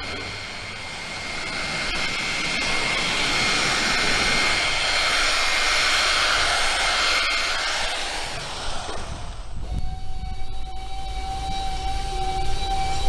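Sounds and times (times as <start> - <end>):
rushing noise with high whine: 0.0 - 13.0.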